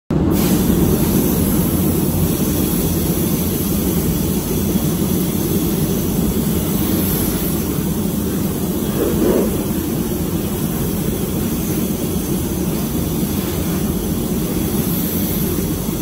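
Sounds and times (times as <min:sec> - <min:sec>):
ventilation fans rushing air: 0:00.1 - 0:16.0.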